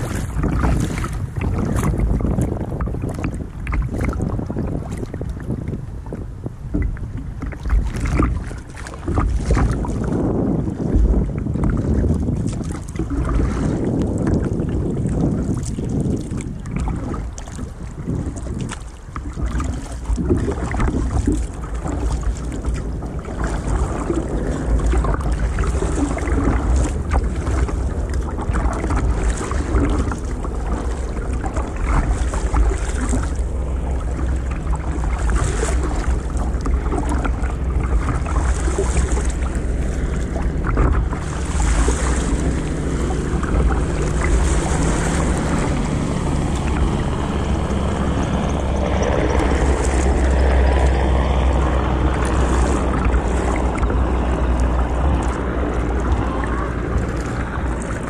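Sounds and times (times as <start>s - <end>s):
water slapping against kayak: 0.0s - 58.0s
wind rumble on microphone: 0.0s - 58.0s.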